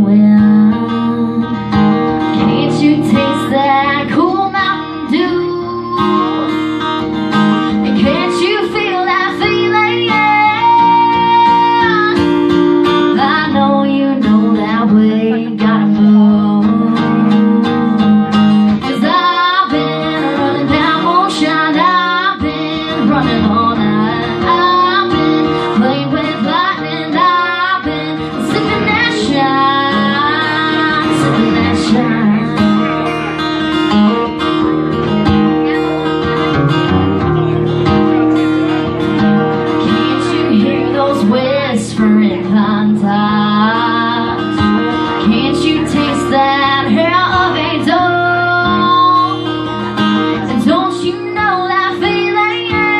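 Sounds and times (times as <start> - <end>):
woman singing: 0.0 - 33.0, 39.8 - 52.9
acoustic guitar: 0.0 - 52.9.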